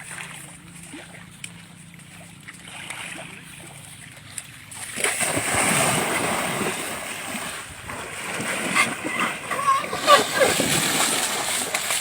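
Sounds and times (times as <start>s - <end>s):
water splashing and churning: 0.0s - 12.0s.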